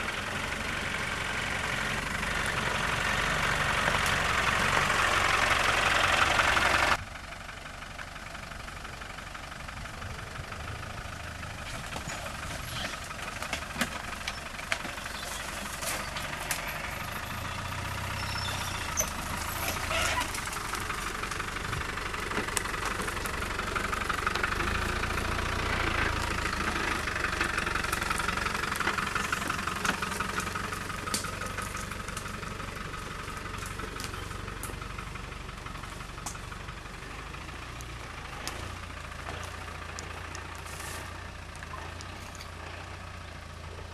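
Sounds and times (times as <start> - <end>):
diesel engine running at low revs: 0.0 - 43.9.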